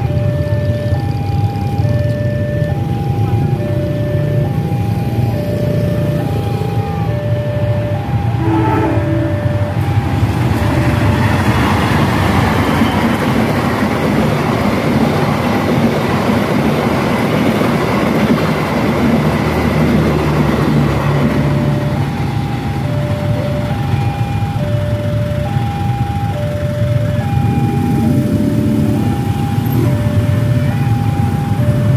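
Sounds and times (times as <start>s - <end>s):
train passing on rails: 0.0s - 31.9s.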